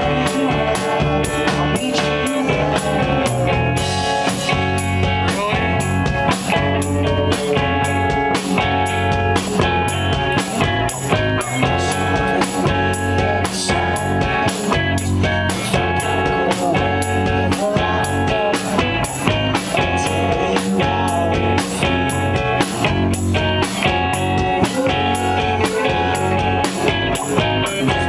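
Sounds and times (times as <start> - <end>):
drum kit beat: 0.0 - 28.0
electric guitar: 0.0 - 28.0.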